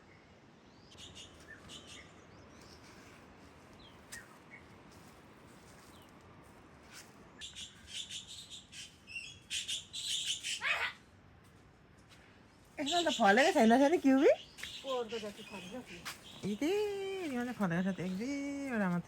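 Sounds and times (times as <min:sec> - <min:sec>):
small birds chirping: 0:00.0 - 0:06.2, 0:06.8 - 0:11.1, 0:12.4 - 0:19.0.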